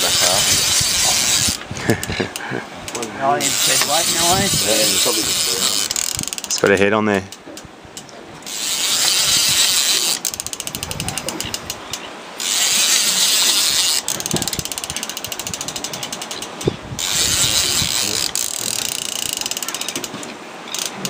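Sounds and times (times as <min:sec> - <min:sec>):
fishing reel ratcheting: 0:00.0 - 0:21.0.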